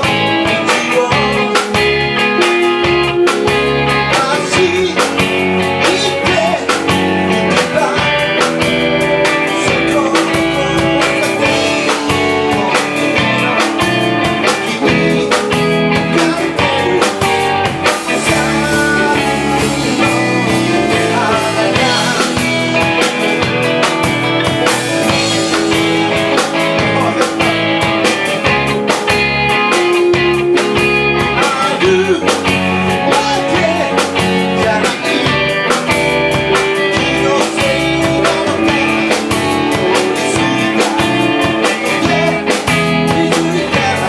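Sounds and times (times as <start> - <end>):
person singing: 0.0 - 23.6, 24.7 - 44.0
blues-rock band playing: 0.0 - 44.0.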